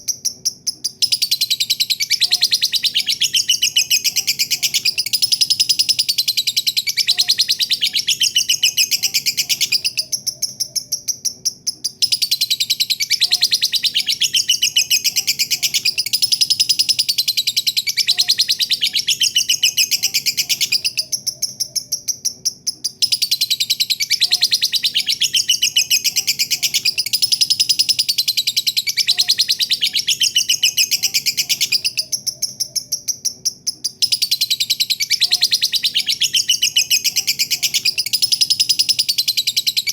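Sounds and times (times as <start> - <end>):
lovebird high-pitched trill: 0.0 - 39.9.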